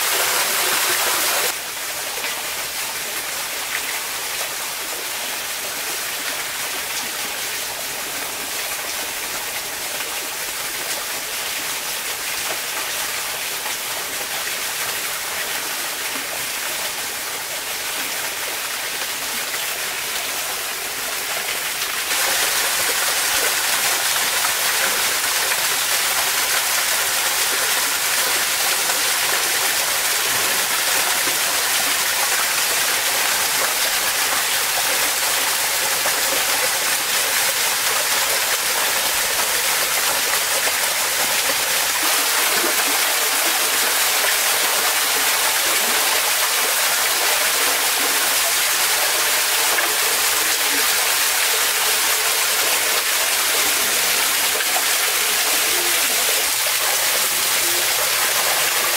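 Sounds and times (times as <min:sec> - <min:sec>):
stream running over stones: 0:00.0 - 0:58.9.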